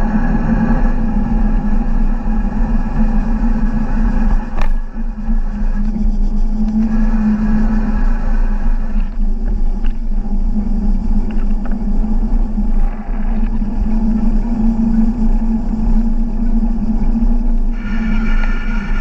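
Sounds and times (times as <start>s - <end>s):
low rumble: 0.0s - 19.0s
vehicle motor humming: 0.0s - 19.0s
wind on microphone: 0.0s - 19.0s.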